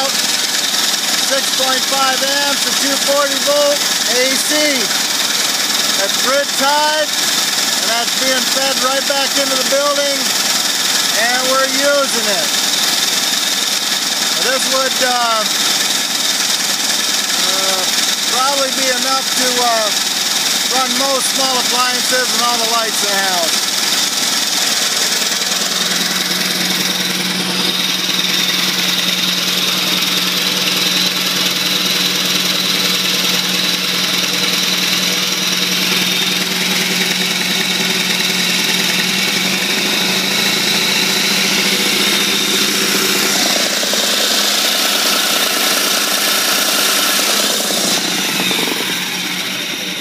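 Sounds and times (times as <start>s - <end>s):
steam engine running: 0.0s - 50.0s.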